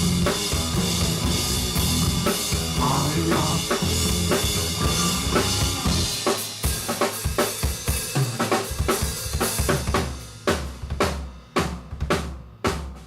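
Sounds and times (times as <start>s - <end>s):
drum kit playing fast beat: 0.0s - 13.0s.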